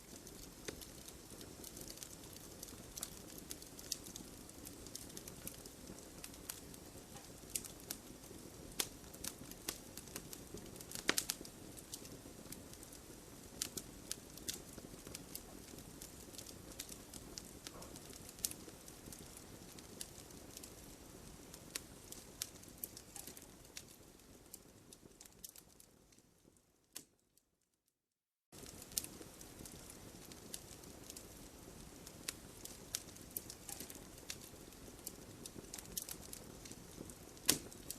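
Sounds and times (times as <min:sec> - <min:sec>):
low rush of flames: 0:00.0 - 0:26.5, 0:28.6 - 0:37.9
wood fire crackling and popping: 0:00.0 - 0:27.2, 0:28.6 - 0:37.9.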